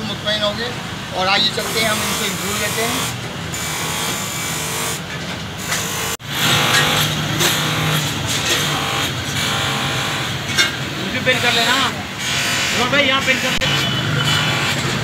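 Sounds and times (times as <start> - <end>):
buffing wheel whirring: 1.5 - 15.0.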